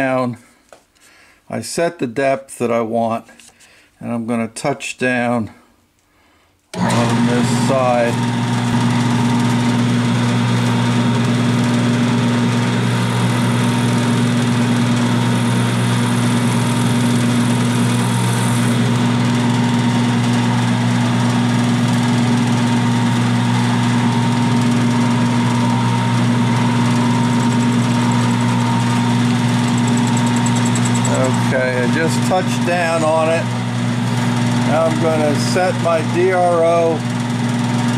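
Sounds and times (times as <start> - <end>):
milling machine spindle humming: 6.8 - 37.9.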